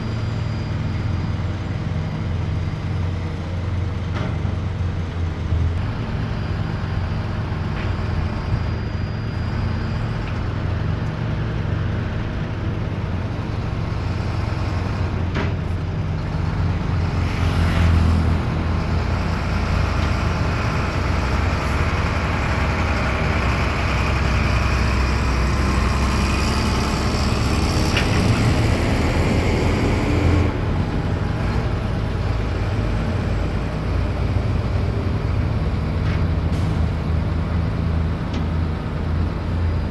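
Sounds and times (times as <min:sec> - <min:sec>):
heavy machinery diesel engines droning: 0:00.0 - 0:39.9.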